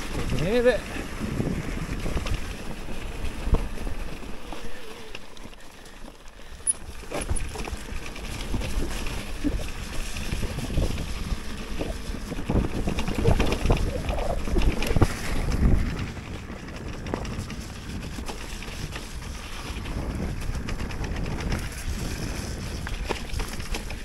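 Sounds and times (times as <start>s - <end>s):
wind on microphone: 0.0s - 5.1s, 7.2s - 24.0s
bike knocks and rattles: 0.0s - 24.0s
bike tyres on snow: 0.0s - 24.0s.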